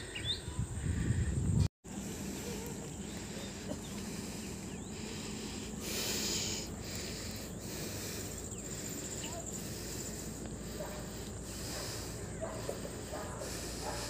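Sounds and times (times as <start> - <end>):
faint high insect drone: 0.0 - 14.0.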